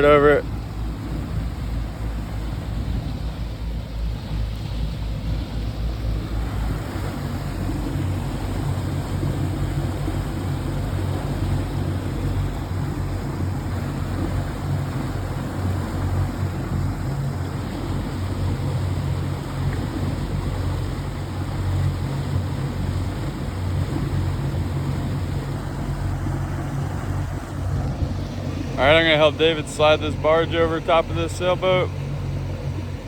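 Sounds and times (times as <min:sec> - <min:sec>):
boat motor running: 0:00.0 - 0:33.0.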